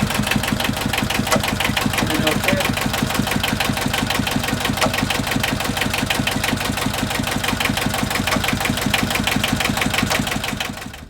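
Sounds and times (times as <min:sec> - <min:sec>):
marine diesel engine running: 0:00.0 - 0:11.0.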